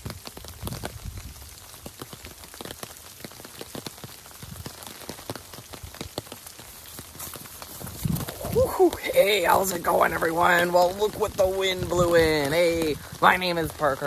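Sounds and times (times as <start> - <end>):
raindrops striking close by: 0.0 - 14.0
steady rain hiss: 0.0 - 14.0.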